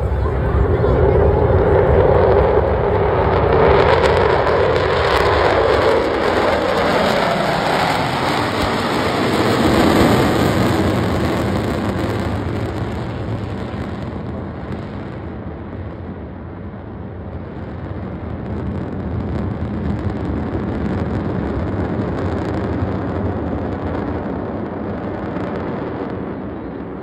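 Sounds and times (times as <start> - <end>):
jet engines roaring overhead: 0.0 - 27.0.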